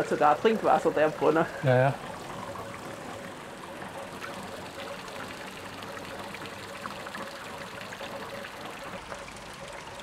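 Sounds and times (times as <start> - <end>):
fountain water running into basin: 0.0 - 10.0.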